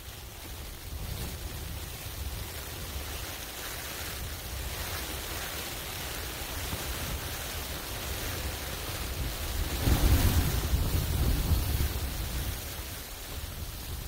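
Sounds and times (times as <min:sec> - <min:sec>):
rushing wind buffeting a tent: 0:00.0 - 0:14.0.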